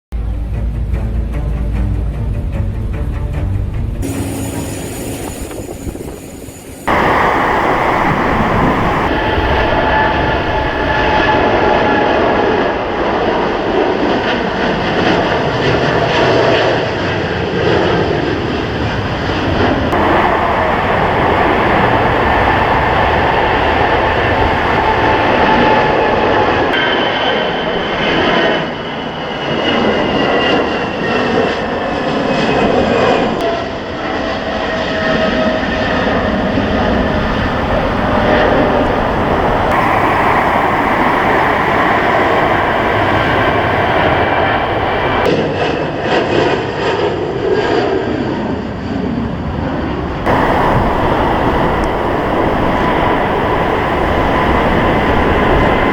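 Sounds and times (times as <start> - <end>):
jet engines roaring with whine: 4.0 - 55.9.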